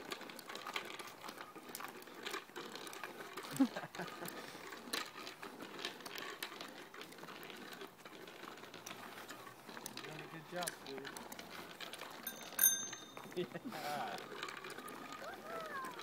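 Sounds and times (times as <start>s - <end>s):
bike training wheels rattling: 0.0s - 16.0s.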